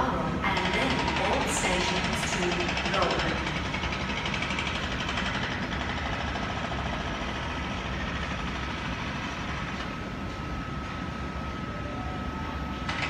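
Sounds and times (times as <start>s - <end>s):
electric train rumble and whine: 0.0s - 13.0s.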